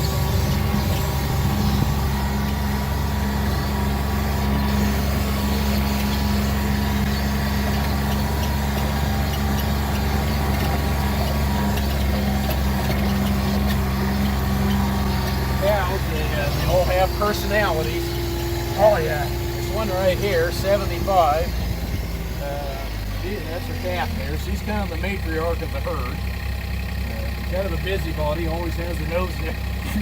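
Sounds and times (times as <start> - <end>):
road noise: 0.0 - 30.0
vehicle engine droning: 0.0 - 30.0.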